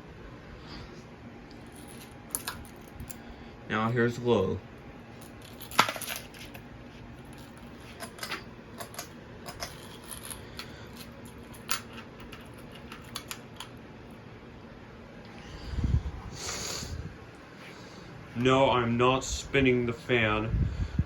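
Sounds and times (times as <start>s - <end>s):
ceiling fan hum: 0.0s - 21.0s.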